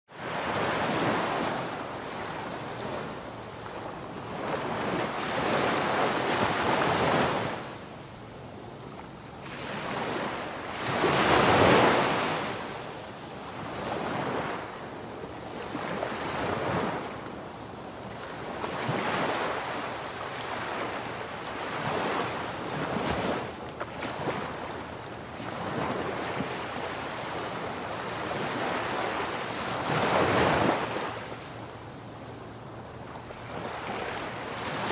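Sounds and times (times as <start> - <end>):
ocean waves breaking on shore: 0.1 - 7.9, 8.6 - 34.9.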